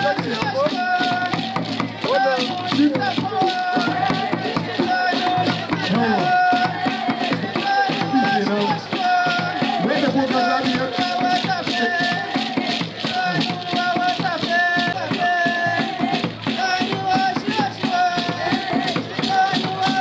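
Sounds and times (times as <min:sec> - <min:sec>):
hand rattles shaken: 0:00.0 - 0:20.0.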